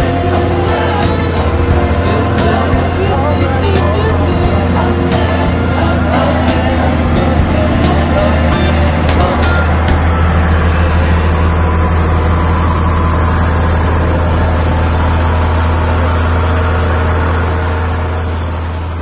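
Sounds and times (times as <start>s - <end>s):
truck diesel engine droning: 0.0s - 19.0s.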